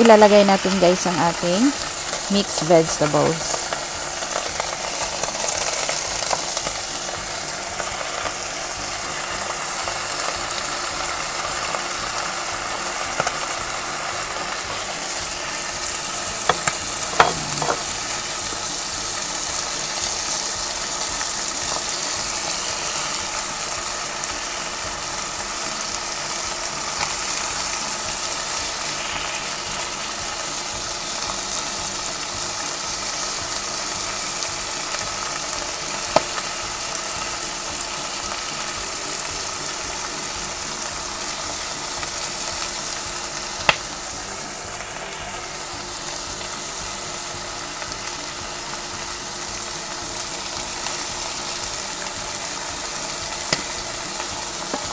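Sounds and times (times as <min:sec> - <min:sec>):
food sizzling in a wok: 0:00.0 - 0:54.9.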